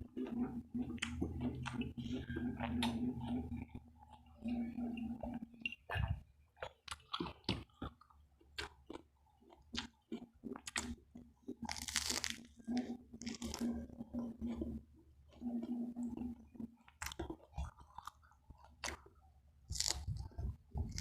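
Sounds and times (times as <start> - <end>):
chewing crispy food: 0.0 - 21.0.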